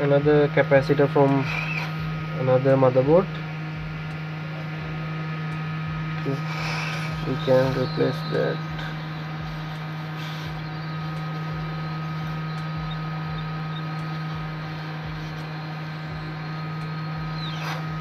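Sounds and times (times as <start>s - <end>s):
low mechanical hum: 0.0s - 18.0s
thin high whine: 0.0s - 18.0s.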